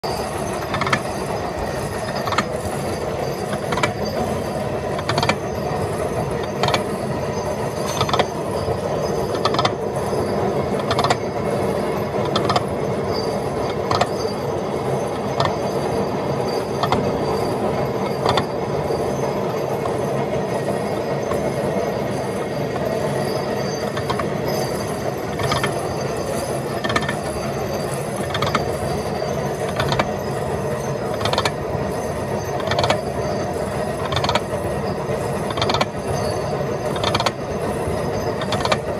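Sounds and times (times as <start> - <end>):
machinery clattering: 0.0 - 38.9.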